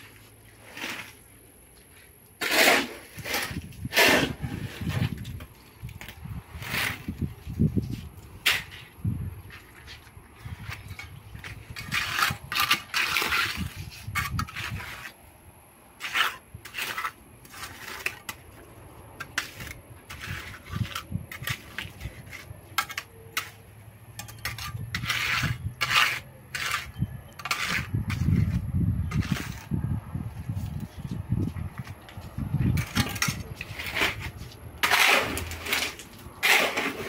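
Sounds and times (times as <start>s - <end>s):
metal trowel scraping wet concrete: 0.0s - 1.4s, 2.3s - 15.2s, 16.0s - 31.2s, 32.6s - 37.0s.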